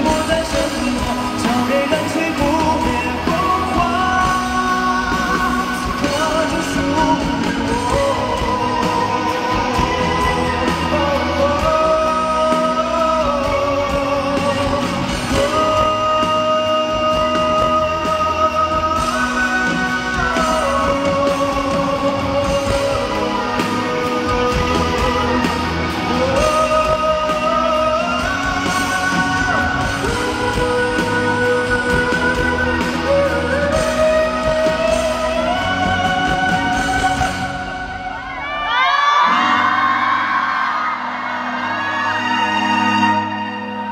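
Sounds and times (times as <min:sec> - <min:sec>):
full band playing: 0:00.0 - 0:43.9
man singing pop-rock song: 0:00.0 - 0:43.9.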